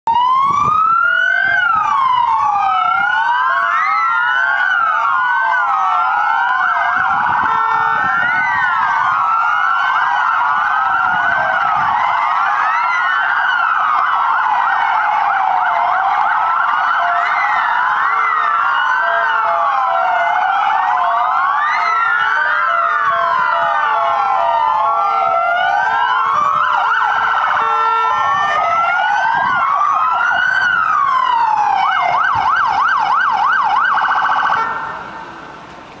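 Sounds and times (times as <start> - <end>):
fire engine sirens wailing: 0.1 - 36.0.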